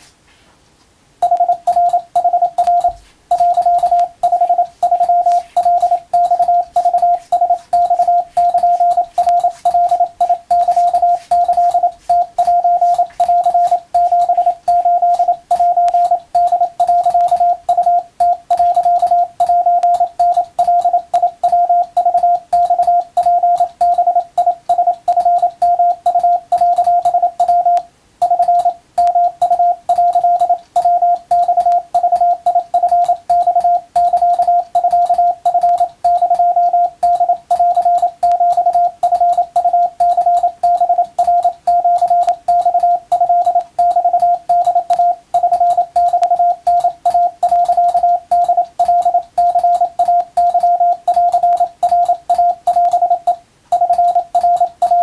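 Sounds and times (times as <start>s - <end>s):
morse code beeps: 1.2s - 55.0s.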